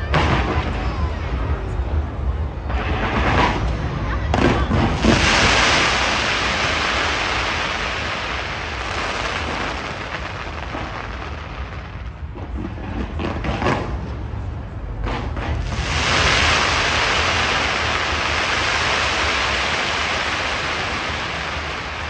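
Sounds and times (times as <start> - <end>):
firework bangs: 0.0 - 22.0
fireworks crackling: 0.0 - 22.0.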